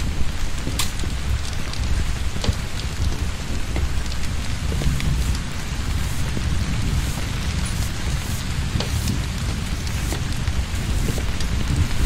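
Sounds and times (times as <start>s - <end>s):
deep low rumble: 0.0s - 12.0s
torrential rain pouring: 0.0s - 12.0s.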